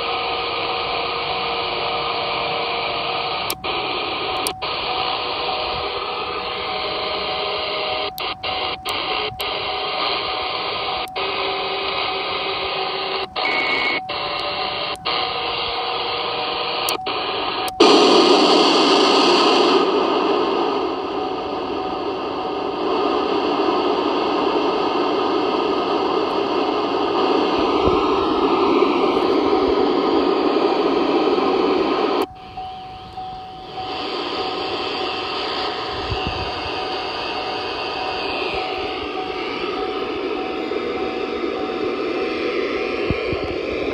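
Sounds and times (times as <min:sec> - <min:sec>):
faint steady radio tones: 0:00.0 - 0:43.9
fm receiver noise rush: 0:00.0 - 0:43.9
radio static hiss: 0:00.0 - 0:43.9.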